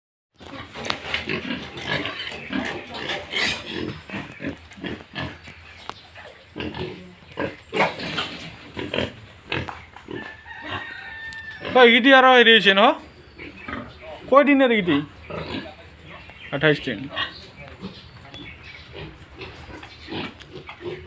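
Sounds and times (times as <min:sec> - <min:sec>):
pigs grunting and squealing: 0:00.4 - 0:21.0.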